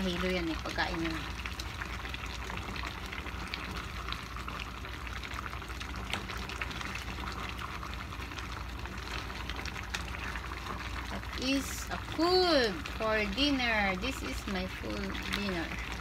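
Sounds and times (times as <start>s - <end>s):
stew bubbling in a pan: 0.0s - 16.0s.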